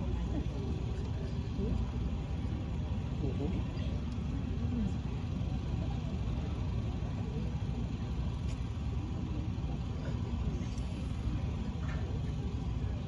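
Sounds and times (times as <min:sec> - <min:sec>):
crowd murmuring: 0:00.0 - 0:13.0.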